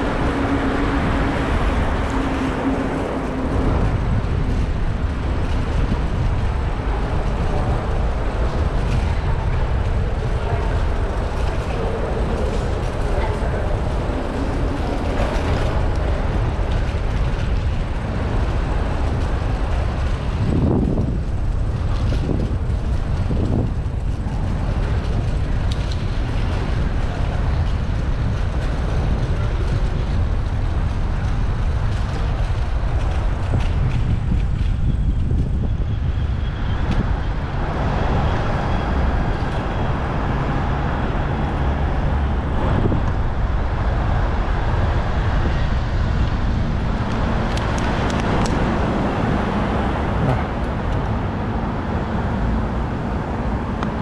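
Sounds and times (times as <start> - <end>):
passing vehicles: 0.0 - 54.0
road noise: 0.0 - 54.0
wind rush: 0.0 - 54.0.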